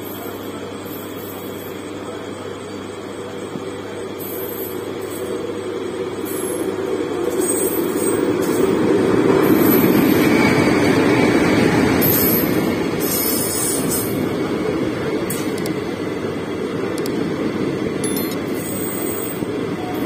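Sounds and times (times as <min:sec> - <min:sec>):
electric locomotive rumble: 0:00.0 - 0:20.0.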